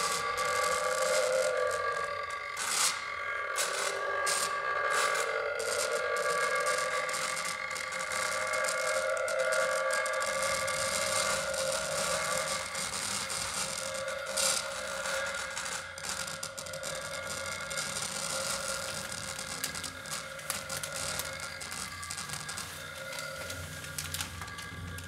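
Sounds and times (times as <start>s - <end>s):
vibrator rattling on wood: 0.0s - 25.0s.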